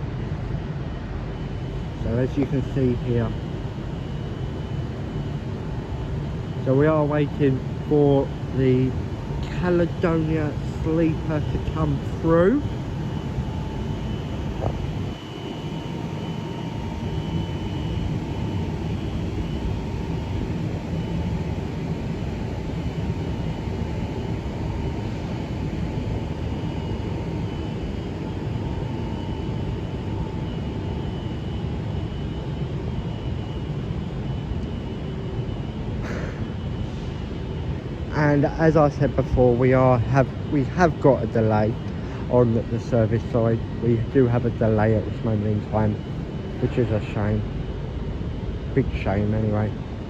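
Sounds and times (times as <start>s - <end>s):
faint steady whines: 0.0s - 50.0s
train equipment low hum: 0.0s - 50.0s.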